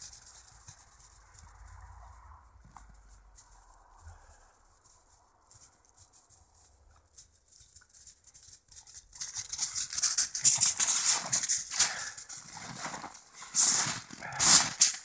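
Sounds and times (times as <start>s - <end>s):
footsteps crunching in snow: 0.0s - 8.6s, 9.6s - 15.0s.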